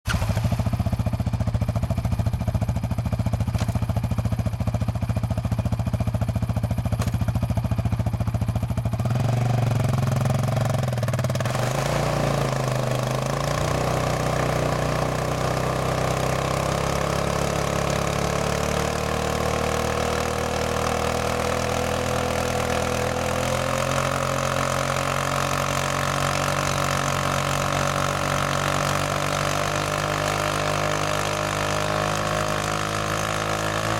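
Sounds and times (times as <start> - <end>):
quad bike engine revving: 0.1 - 4.1, 6.9 - 33.9.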